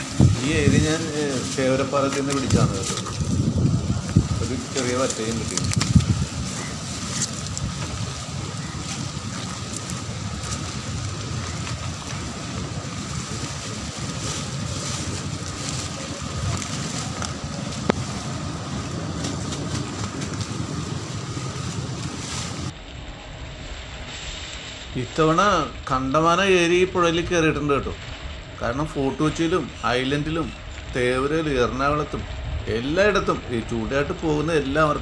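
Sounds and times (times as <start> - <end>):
wind buffeting microphone: 0.0 - 22.8, 24.8 - 35.0.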